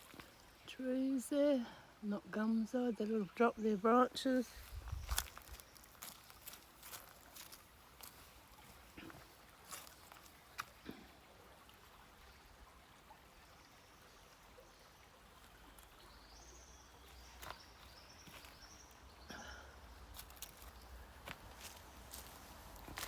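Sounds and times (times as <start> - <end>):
creek running: 0.0 - 23.0.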